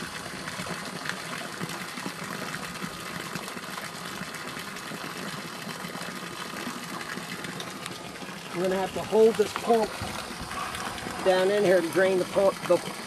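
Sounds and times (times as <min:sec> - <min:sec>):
water stream splashing into water: 0:00.0 - 0:13.0.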